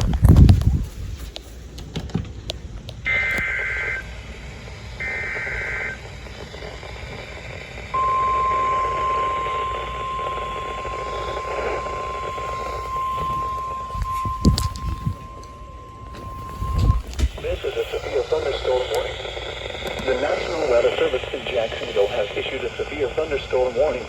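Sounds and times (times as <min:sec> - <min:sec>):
buzzy warbling data tones: 0:03.0 - 0:24.0
steady warning alarm tone: 0:03.0 - 0:24.0.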